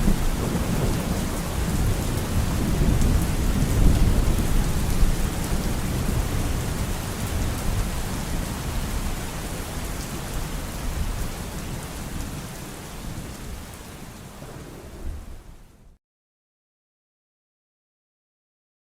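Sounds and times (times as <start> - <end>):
low thunder rumble: 0.0 - 16.0
steady rain: 0.0 - 16.0.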